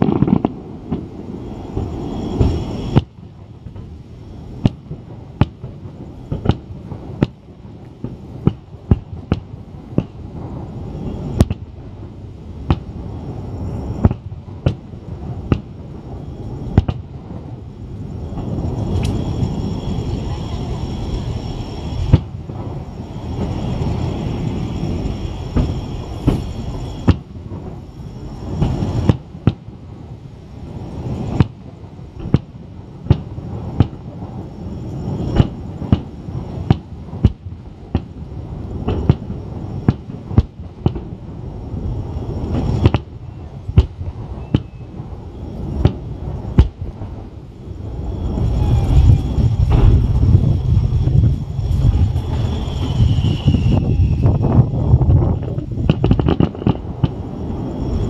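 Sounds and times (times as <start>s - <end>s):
fireworks bursting with sharp bangs: 0.0s - 57.6s
low rumble: 0.0s - 58.0s.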